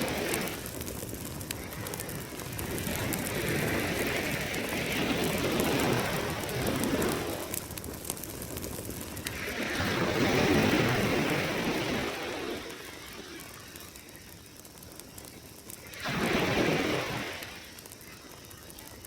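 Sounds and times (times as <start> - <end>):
campfire crackling and popping: 0.0 - 19.0
ocean surf: 0.0 - 19.0.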